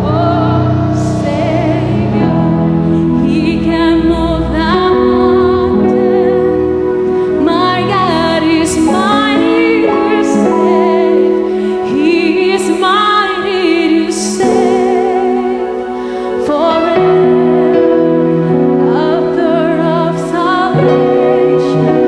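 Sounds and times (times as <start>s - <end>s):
instrumental accompaniment: 0.0s - 22.0s
woman singing into a microphone: 0.0s - 22.0s.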